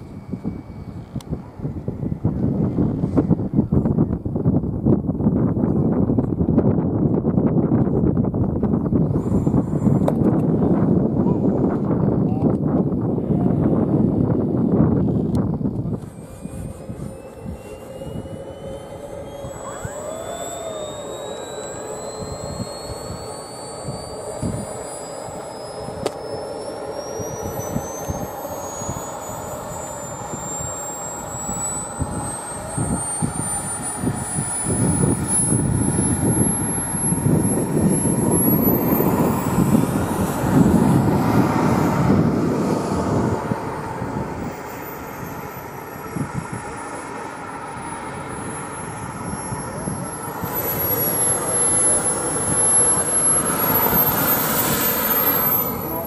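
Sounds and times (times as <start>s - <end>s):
high whine rising in pitch: 0.0s - 56.0s
model plane propeller motors: 0.0s - 56.0s.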